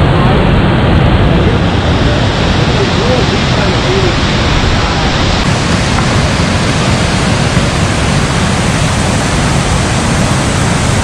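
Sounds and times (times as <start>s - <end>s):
whitewater rapid rushing: 0.0s - 11.0s.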